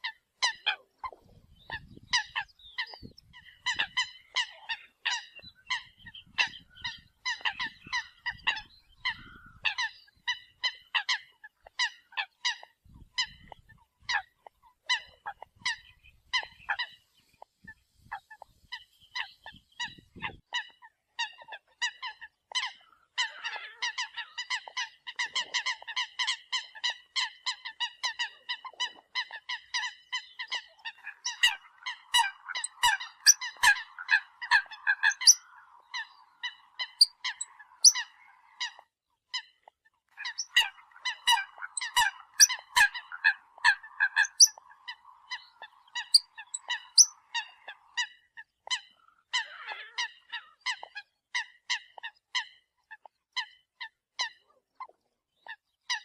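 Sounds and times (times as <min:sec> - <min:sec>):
birds honking calls: 0:00.0 - 0:17.1, 0:20.6 - 0:38.8, 0:40.2 - 0:51.0.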